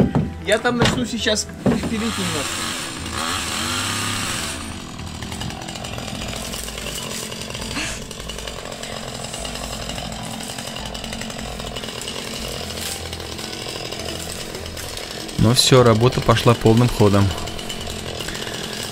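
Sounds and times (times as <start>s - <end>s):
chainsaw cutting saplings: 0.6s - 18.9s.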